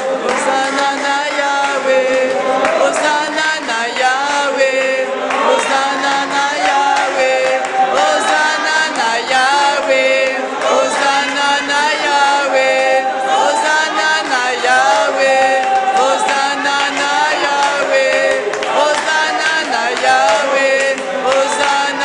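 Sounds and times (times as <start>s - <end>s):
voices singing a worship song: 0.0s - 22.0s.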